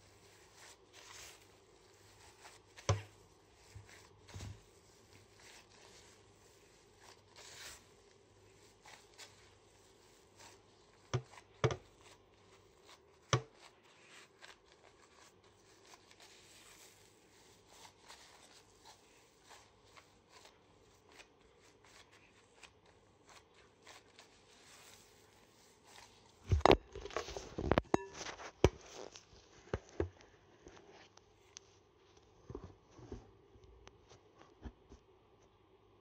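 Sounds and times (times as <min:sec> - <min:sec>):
gloved hands kneading meat: 0:00.0 - 0:30.5
plastic gloves rustling: 0:00.0 - 0:32.1.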